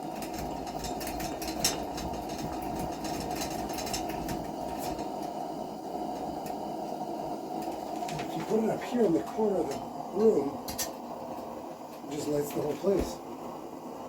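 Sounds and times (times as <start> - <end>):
lantern hissing: 0.0 - 14.0.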